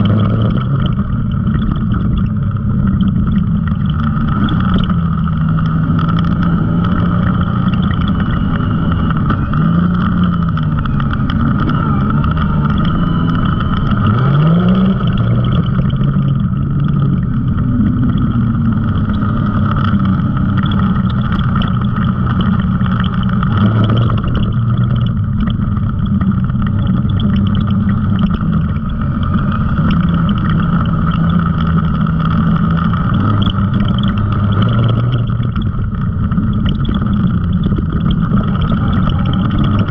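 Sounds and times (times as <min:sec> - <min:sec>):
steady high whine: 0:00.0 - 0:39.9
utility vehicle engine revving: 0:00.0 - 0:39.9.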